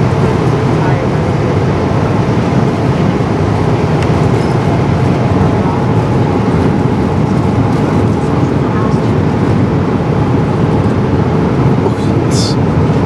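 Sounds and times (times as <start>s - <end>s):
jet airliner cabin rumble: 0.0s - 13.0s.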